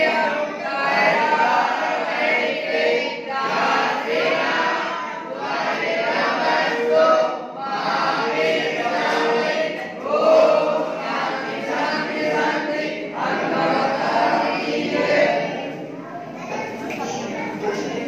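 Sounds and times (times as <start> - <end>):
boys chanting a prayer: 0.0 - 18.0.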